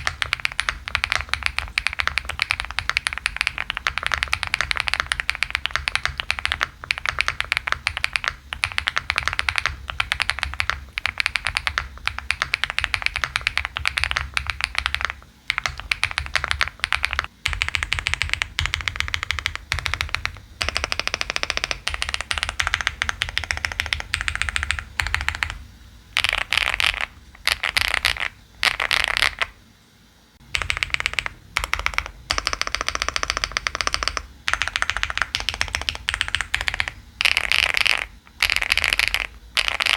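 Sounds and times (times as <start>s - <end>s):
fast mechanical keyboard typing: 0.0s - 25.6s, 26.2s - 29.6s, 30.4s - 39.9s.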